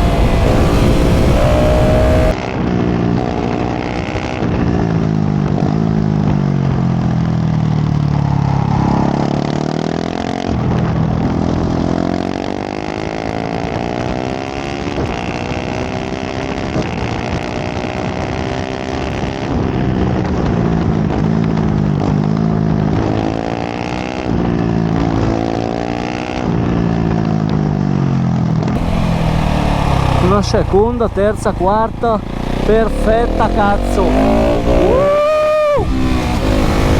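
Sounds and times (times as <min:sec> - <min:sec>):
motorcycle engine at full throttle: 0:00.0 - 0:36.9.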